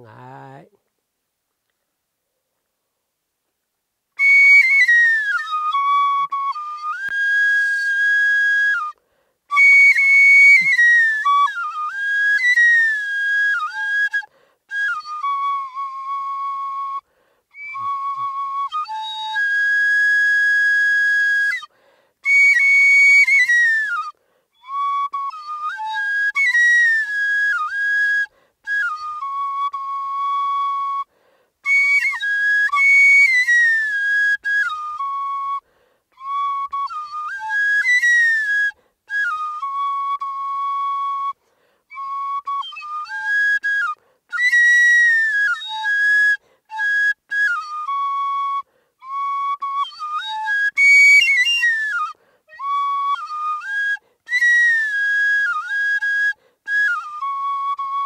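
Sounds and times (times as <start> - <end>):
bamboo flute melody: 4.1 - 58.0.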